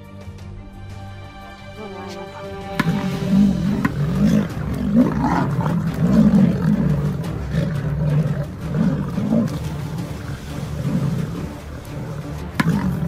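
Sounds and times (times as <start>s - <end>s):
lions growling: 2.2s - 13.0s.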